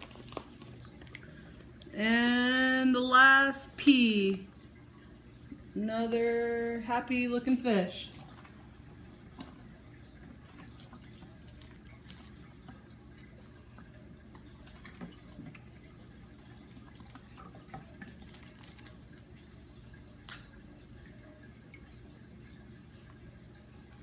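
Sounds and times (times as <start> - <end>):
low steady hum: 0.0 - 24.0
water dripping and trickling: 0.0 - 24.0.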